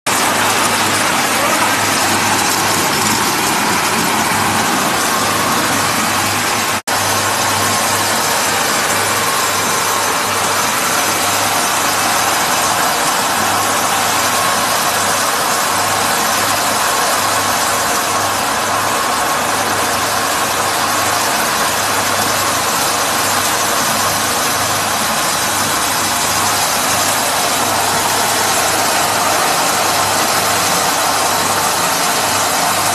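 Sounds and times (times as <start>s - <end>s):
feed machinery running: 0.1s - 32.9s.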